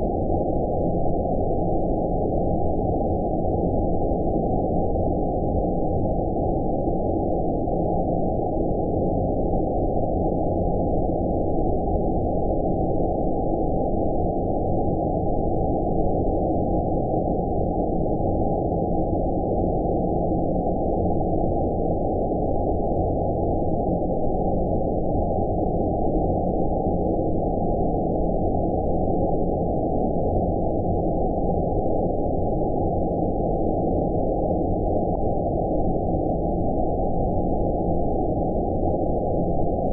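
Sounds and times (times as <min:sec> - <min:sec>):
low rumbling white noise: 0:00.0 - 0:39.9.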